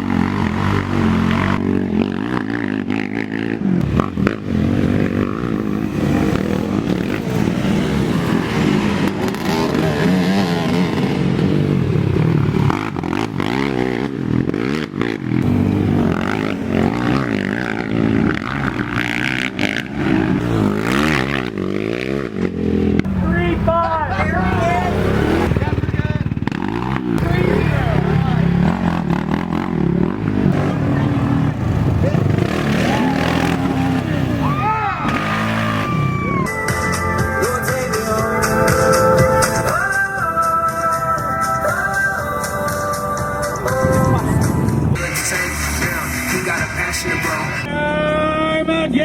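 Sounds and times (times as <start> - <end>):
racing atv engines revving: 0.0 - 49.0.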